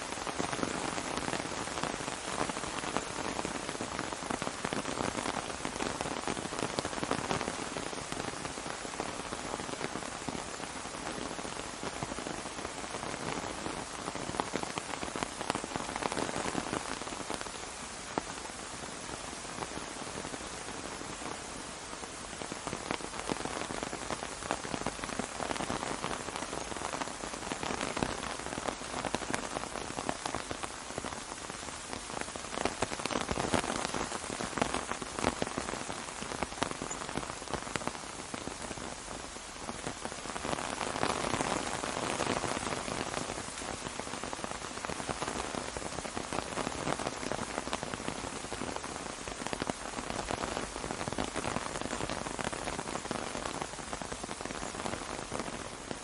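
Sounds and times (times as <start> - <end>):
rain on an umbrella: 0.0 - 56.0.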